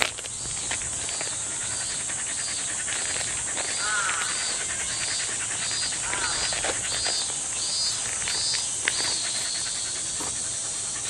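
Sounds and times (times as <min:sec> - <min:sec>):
dog panting: 0:00.0 - 0:11.0
high insect drone: 0:00.0 - 0:11.0.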